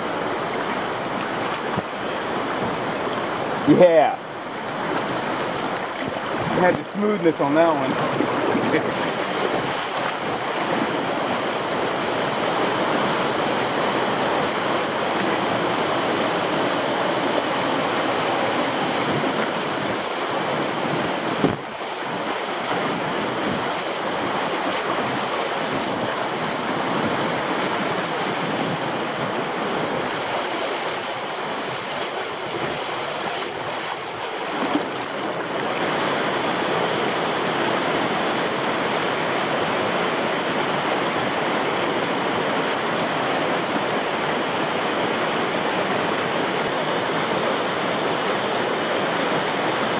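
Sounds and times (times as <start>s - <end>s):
whitewater rushing over rocks: 0.0s - 49.9s.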